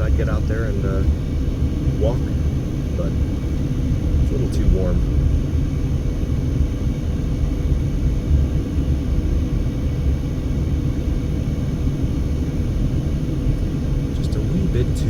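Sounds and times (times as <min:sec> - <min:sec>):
road noise: 0:00.0 - 0:10.9, 0:12.4 - 0:15.0
faint steady hum: 0:00.0 - 0:15.0
wind buffeting car: 0:00.0 - 0:15.0.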